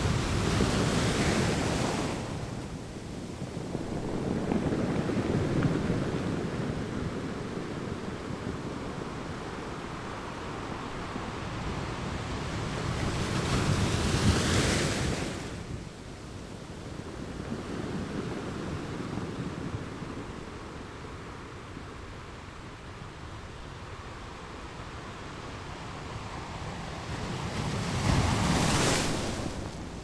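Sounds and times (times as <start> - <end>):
ocean waves washing onto shore: 0.0 - 30.0.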